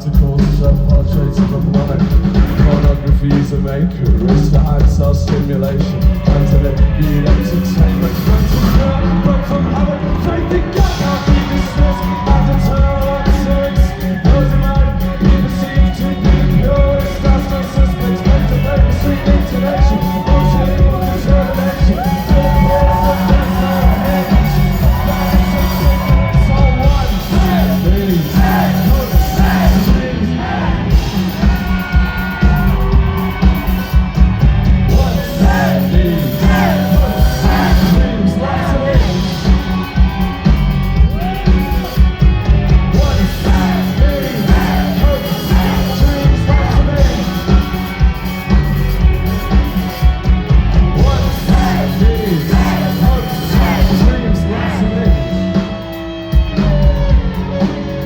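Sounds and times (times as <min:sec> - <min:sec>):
live post-punk band playing: 0:00.0 - 0:58.0.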